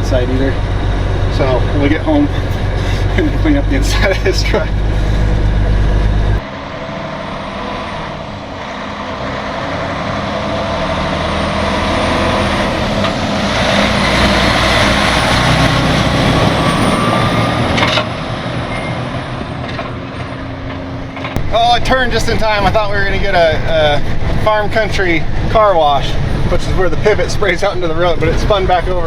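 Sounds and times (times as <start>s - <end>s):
rising whine: 0.0s - 28.6s
tow truck engine: 0.0s - 29.0s.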